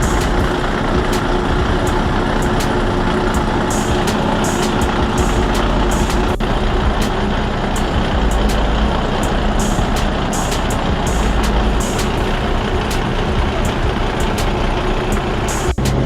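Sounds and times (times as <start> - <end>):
diesel machinery running: 0.0 - 16.0
sharp high clicks: 0.0 - 16.0.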